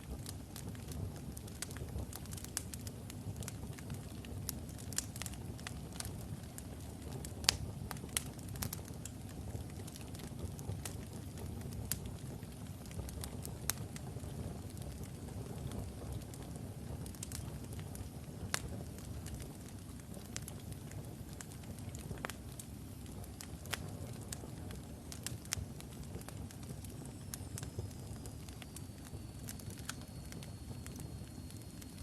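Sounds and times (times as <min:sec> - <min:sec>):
fire flames rumbling: 0:00.0 - 0:32.0
wood crackling and popping: 0:00.0 - 0:32.0.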